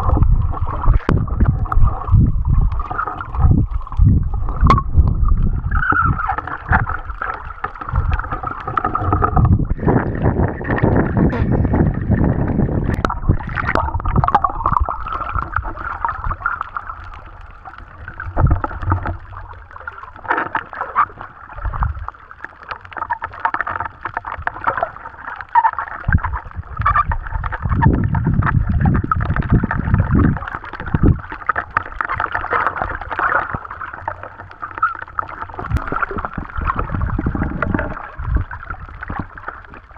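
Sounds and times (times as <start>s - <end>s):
low rumbling water surges: 0.0s - 39.9s
underwater sloshing and gurgling: 0.0s - 39.9s.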